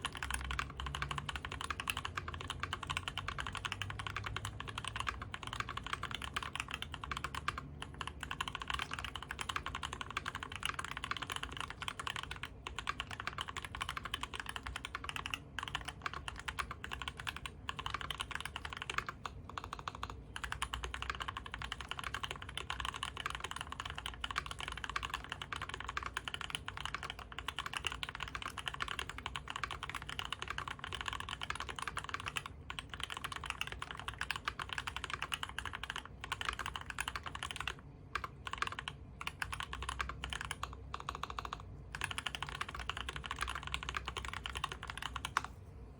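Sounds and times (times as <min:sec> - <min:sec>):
fast mechanical keyboard typing: 0:00.0 - 0:45.6.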